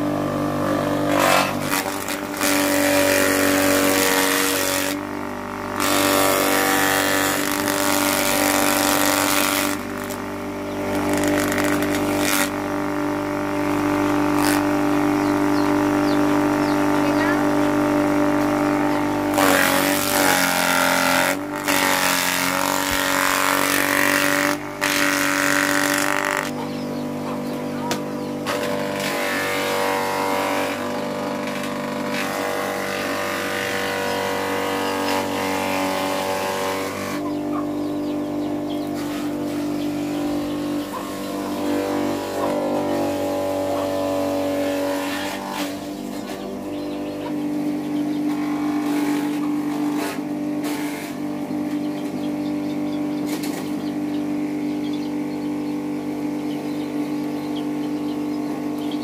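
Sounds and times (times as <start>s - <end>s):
motor humming: 0.0s - 59.0s.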